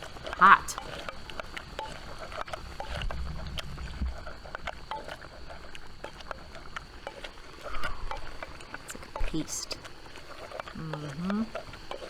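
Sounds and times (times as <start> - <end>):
pestle pounding in a mortar: 0.0 - 12.0.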